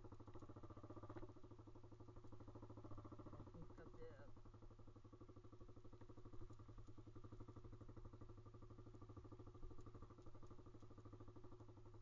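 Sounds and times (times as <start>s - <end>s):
faint pit bike engine running: 0.0s - 12.0s.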